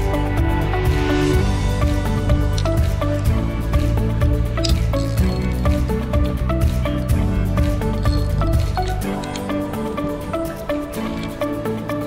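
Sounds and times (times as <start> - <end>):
background music with bass and beat: 0.0 - 12.0.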